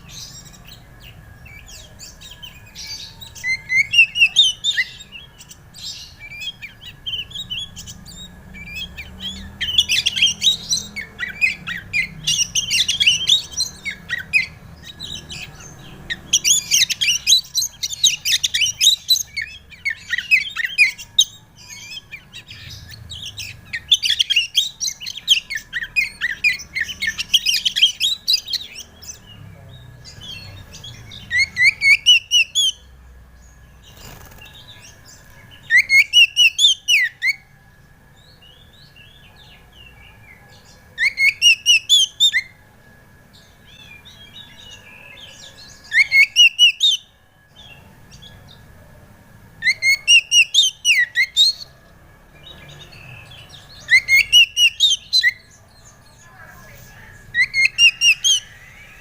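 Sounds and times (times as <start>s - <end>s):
magpie-robin singing chirps and trills: 0.0s - 59.0s.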